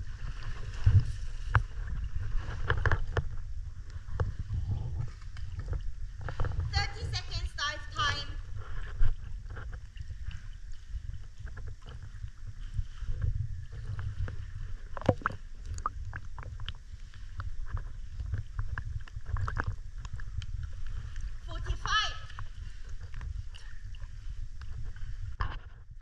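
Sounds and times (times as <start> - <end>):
water sloshing and lapping: 0.0 - 26.0.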